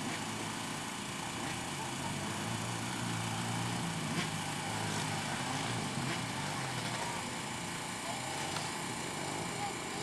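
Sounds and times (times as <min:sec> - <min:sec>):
quad engines droning: 0:00.0 - 0:10.0.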